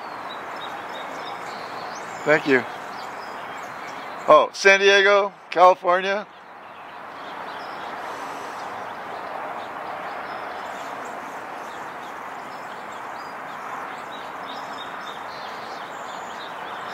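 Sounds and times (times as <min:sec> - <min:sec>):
outdoor background noise: 0:00.0 - 0:16.9
small birds chirping: 0:00.0 - 0:16.9.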